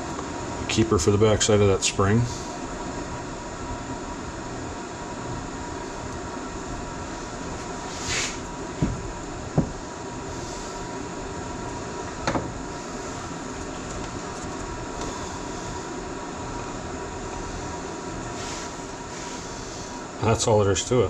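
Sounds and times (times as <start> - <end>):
workshop background rumble: 0.0 - 21.0.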